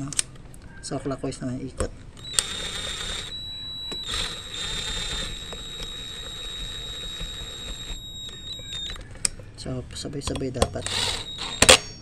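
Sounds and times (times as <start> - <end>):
cordless drill motor whining: 2.0 - 12.0.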